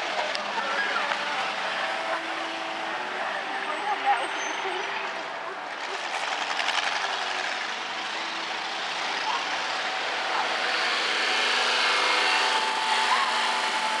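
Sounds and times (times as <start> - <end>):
car engines at low speed: 0.0 - 14.0.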